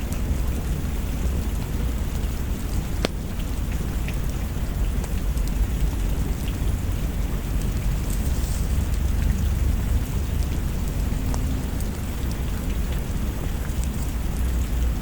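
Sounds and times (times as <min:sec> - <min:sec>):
steady rain: 0:00.0 - 0:15.0
deep low rumble: 0:00.8 - 0:15.0.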